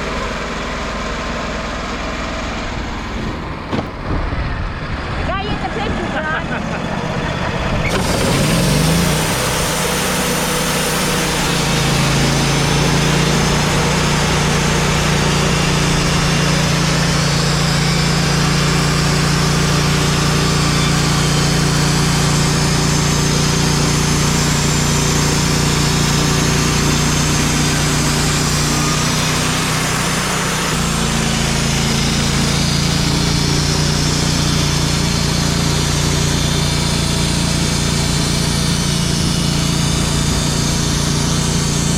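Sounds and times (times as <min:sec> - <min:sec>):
band sawmill cutting log: 0:00.0 - 0:41.9.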